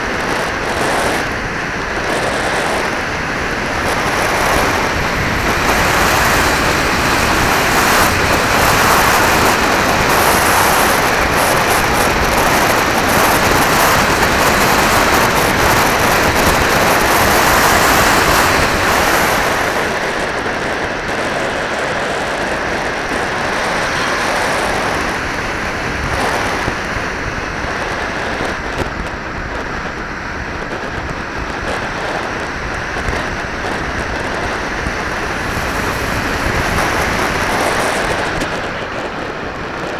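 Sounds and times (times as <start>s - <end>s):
wind hiss over microphone: 0.0s - 39.9s.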